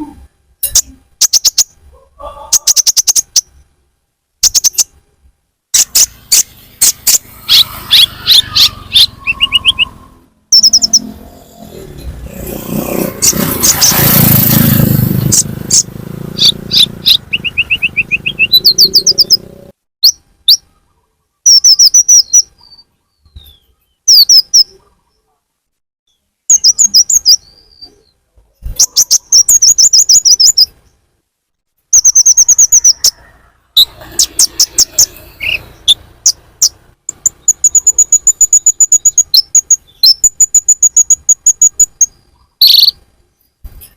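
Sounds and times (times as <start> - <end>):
sunbird chirping trills: 0.6 - 3.6, 4.4 - 5.0, 5.7 - 14.3, 15.1 - 25.3, 26.1 - 31.0, 31.9 - 43.9.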